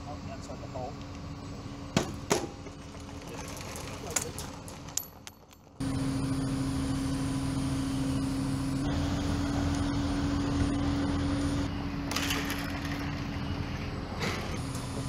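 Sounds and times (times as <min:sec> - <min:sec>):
crane engine droning: 0:00.0 - 0:15.0.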